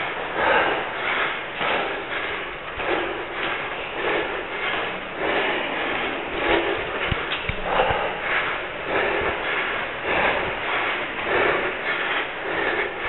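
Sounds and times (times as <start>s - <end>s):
dull footfalls on steps: 0.0s - 13.0s
person panting hard: 0.0s - 13.0s.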